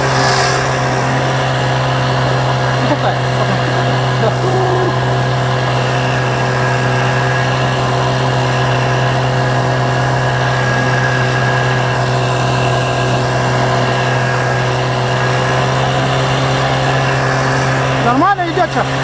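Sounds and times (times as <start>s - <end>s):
outboard motor droning: 0.0s - 19.0s.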